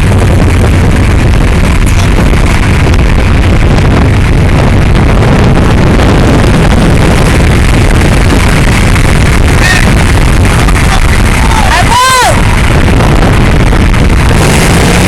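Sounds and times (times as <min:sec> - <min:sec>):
car rumble: 0:00.0 - 0:15.0
wind on microphone: 0:00.0 - 0:15.0.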